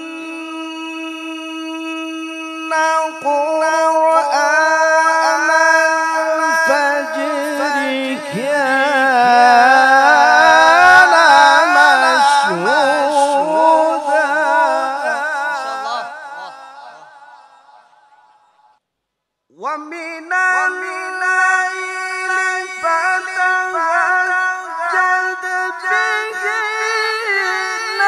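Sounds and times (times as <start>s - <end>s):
man reciting melodically: 0.0s - 17.8s, 19.5s - 28.0s.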